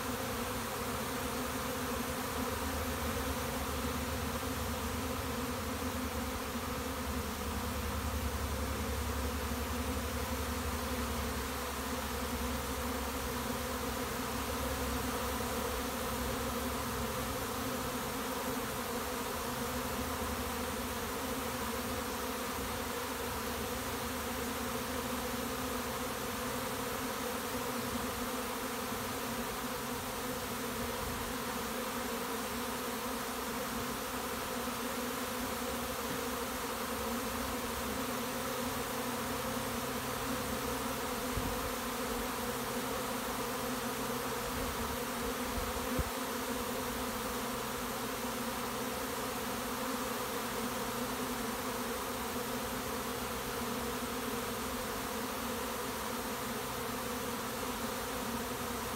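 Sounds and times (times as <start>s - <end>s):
bee swarm buzzing: 0.0s - 58.9s.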